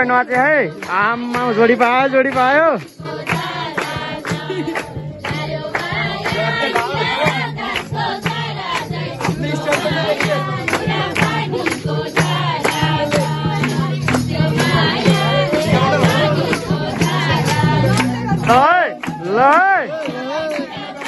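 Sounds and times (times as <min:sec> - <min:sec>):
percussion beat: 0:00.0 - 0:21.0.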